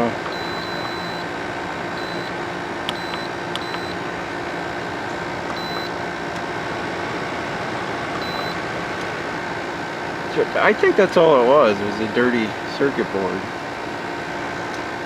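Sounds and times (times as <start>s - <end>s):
dehumidifier humming: 0.0s - 15.0s.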